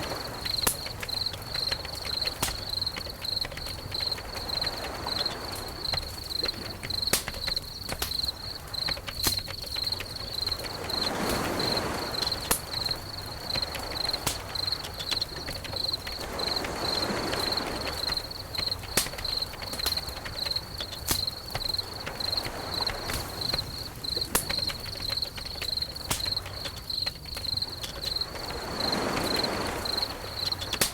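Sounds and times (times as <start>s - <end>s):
cricket chirping: 0.0s - 30.9s
sharp crackles: 0.0s - 30.9s.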